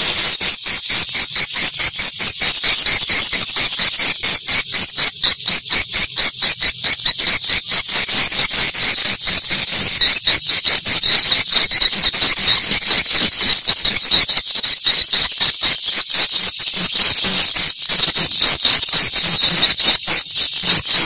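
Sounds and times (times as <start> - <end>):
birds twittering: 0.0 - 21.0.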